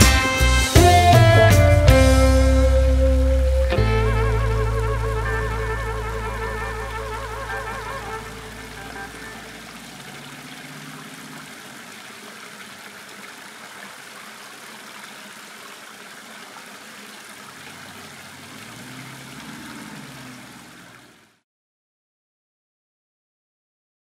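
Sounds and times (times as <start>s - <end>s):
creek water rushing: 0.0s - 21.4s.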